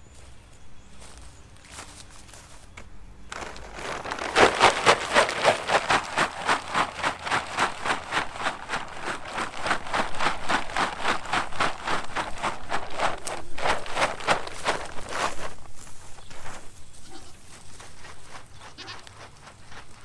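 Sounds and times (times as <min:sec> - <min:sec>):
footsteps walking: 0:00.1 - 0:20.0.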